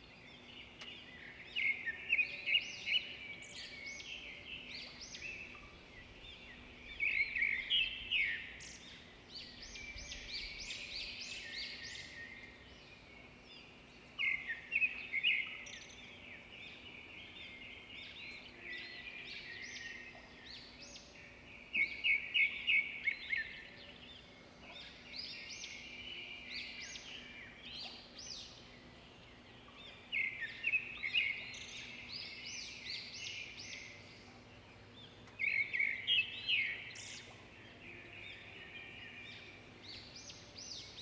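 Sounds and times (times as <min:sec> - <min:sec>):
birds chirping: 0:00.4 - 0:41.0.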